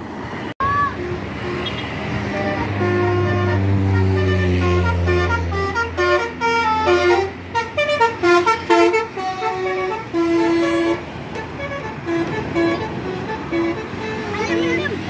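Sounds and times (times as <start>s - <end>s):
musical air horn melody: 0.9s - 15.0s.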